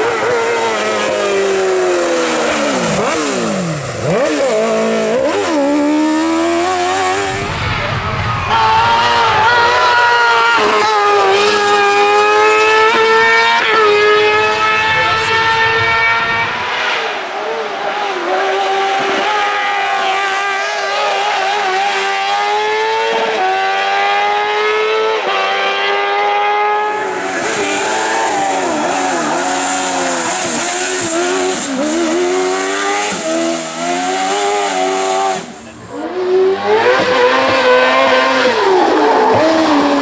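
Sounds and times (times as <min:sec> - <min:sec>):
racing buggy engine revving: 0:00.0 - 0:40.0.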